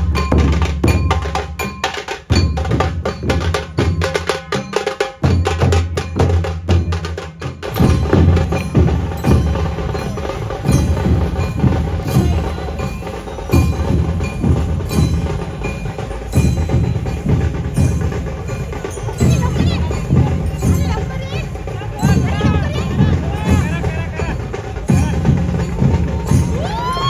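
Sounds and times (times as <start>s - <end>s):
deep dhol drum beats: 0.0s - 27.0s
sharp tasha drum strokes: 0.0s - 27.0s.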